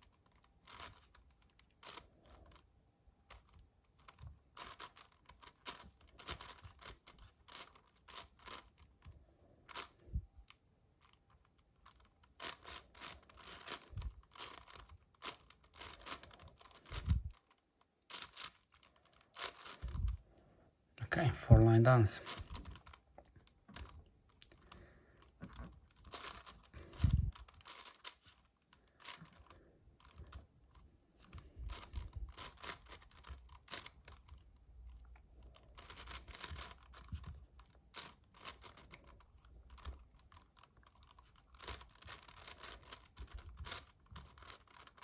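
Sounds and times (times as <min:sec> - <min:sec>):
puzzle cube clicking and clacking: 0:00.0 - 0:10.1, 0:11.0 - 0:20.2, 0:22.2 - 0:45.0.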